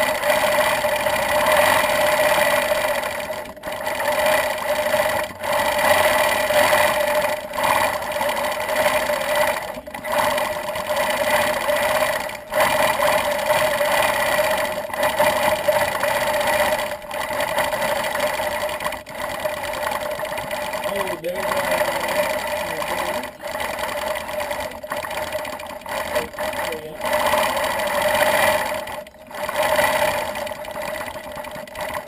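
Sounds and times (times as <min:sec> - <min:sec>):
quilting machine stitching: 0:00.0 - 0:32.0.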